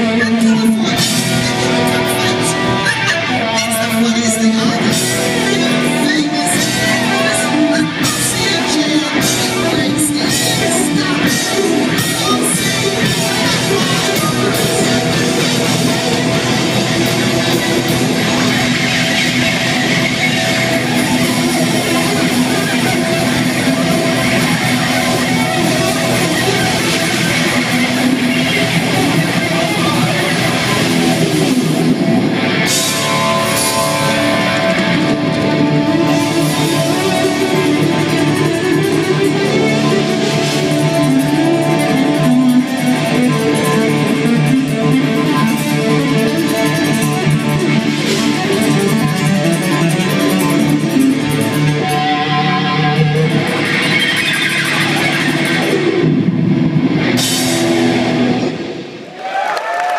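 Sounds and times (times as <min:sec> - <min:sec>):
bass guitar: 0:00.0 - 0:59.9
drum kit: 0:00.0 - 0:59.9
lead electric guitar: 0:00.0 - 0:59.9.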